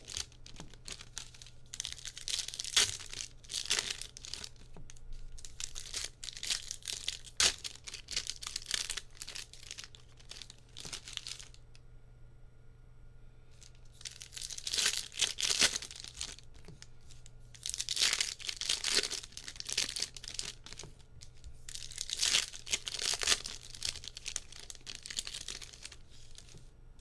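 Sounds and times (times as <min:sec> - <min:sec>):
card pack wrappers crinkling: 0:00.0 - 0:11.6, 0:13.7 - 0:16.8, 0:17.6 - 0:26.7.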